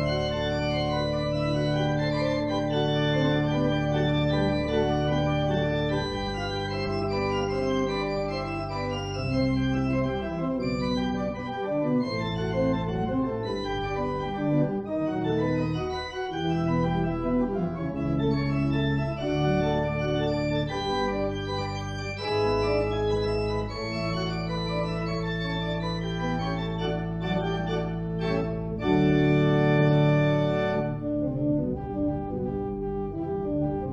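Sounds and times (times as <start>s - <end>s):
organ playing chords: 0.0s - 33.9s.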